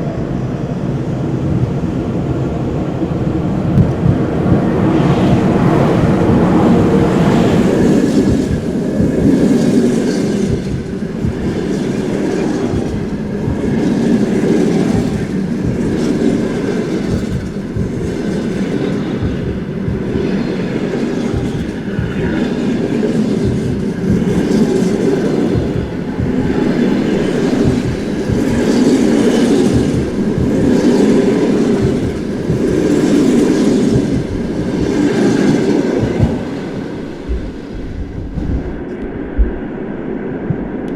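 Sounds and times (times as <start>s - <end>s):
train wheels rumbling on rails: 0.0s - 40.9s
clickety-clack over rail joints: 2.8s - 38.8s.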